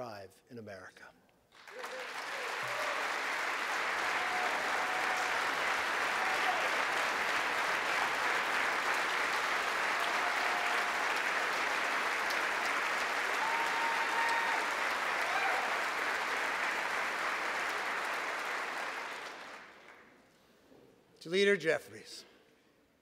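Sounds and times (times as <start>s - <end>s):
crowd applauding: 1.5s - 20.1s.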